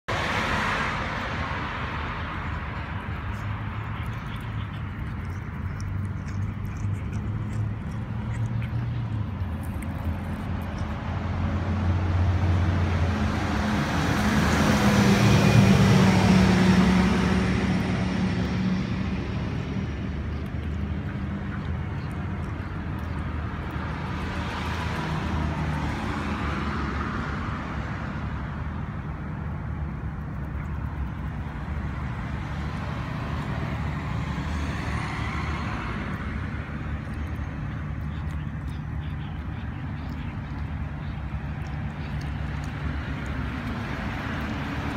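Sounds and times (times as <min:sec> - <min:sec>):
vehicles passing: 0:00.0 - 0:44.9
low engine hum: 0:00.1 - 0:44.9.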